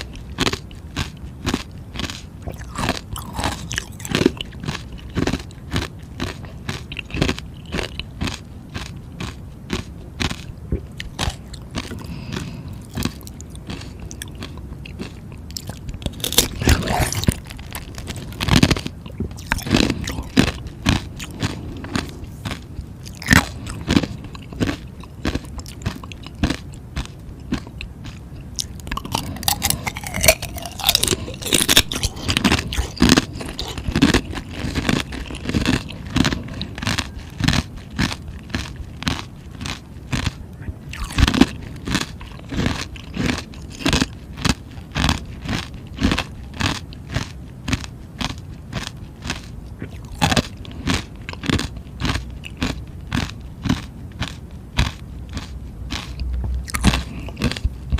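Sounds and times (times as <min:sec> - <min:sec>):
chewing ice crunches: 0:00.0 - 0:57.9.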